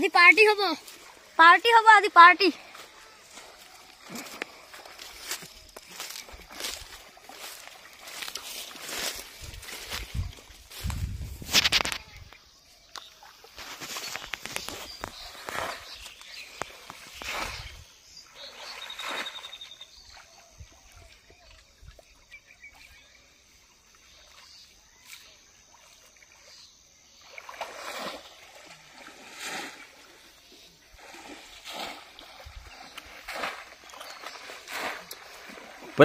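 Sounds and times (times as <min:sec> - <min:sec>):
water splashing from wading: 0:02.5 - 0:10.5, 0:13.1 - 0:22.9, 0:23.7 - 0:36.0.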